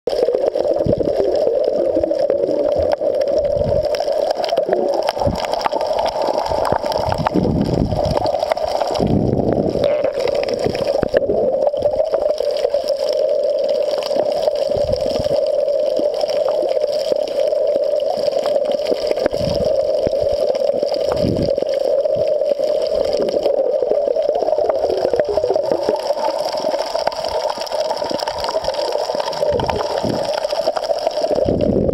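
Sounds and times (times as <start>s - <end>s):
underwater water rushing: 0.1s - 31.9s.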